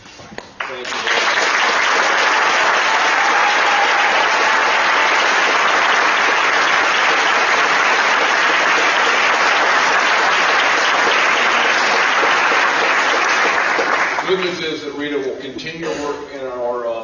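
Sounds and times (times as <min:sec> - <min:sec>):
large audience applauding: 0:00.6 - 0:14.6.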